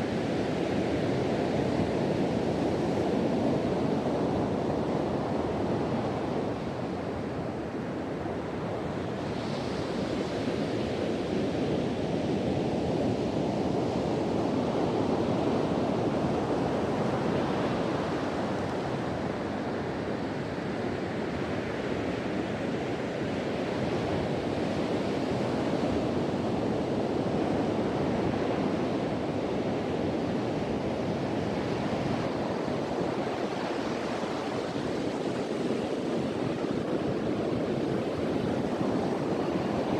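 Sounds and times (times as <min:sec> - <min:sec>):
wind over microphone: 0:00.0 - 0:39.9.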